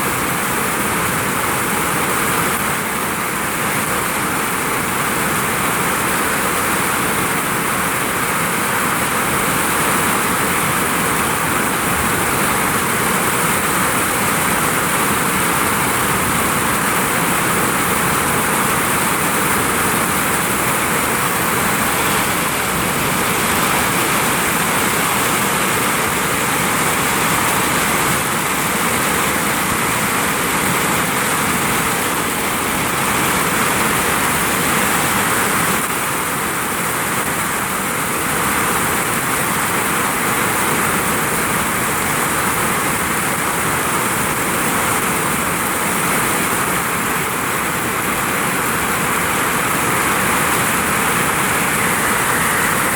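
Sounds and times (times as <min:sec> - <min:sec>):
heavy rain on a roof: 0:00.0 - 0:52.9.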